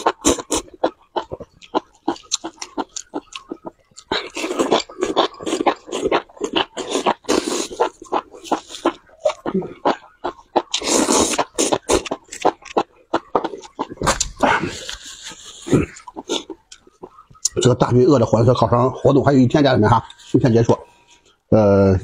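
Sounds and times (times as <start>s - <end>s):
mouth clicks: 0.0s - 17.8s
wet chewing: 0.0s - 17.9s.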